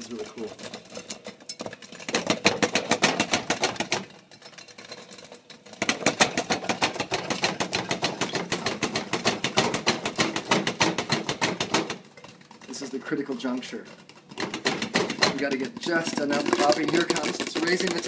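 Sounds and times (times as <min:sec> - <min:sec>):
popcorn popping in a pan: 0:00.0 - 0:18.0.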